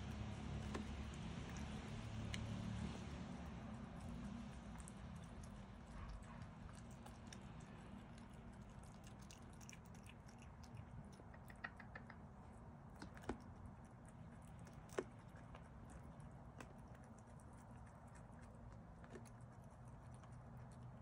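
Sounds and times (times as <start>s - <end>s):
animal chewing: 0.0s - 21.0s
low steady hum: 0.0s - 21.0s.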